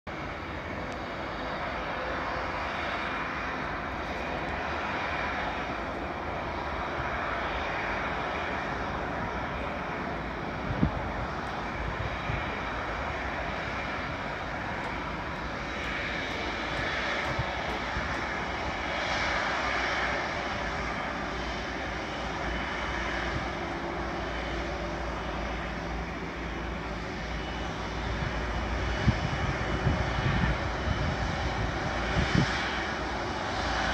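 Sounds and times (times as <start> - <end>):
jet engines taxiing: 0.1 - 33.9.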